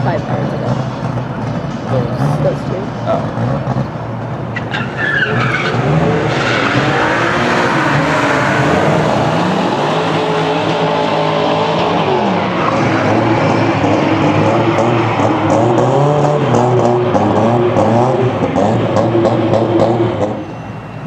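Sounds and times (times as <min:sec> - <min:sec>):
car engines revving hard: 0:00.0 - 0:20.8.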